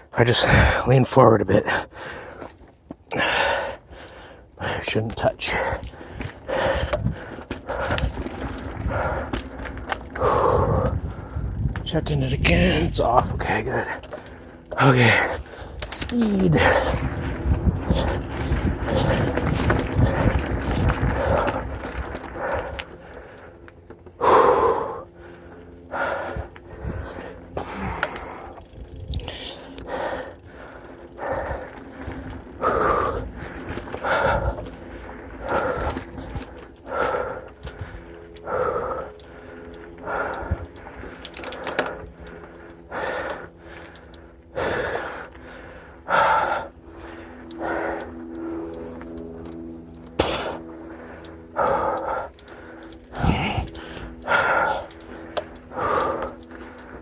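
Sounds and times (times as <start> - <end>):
mountain bike rumbling on dirt: 0.0 - 57.0
rider breathing hard: 1.6 - 57.0.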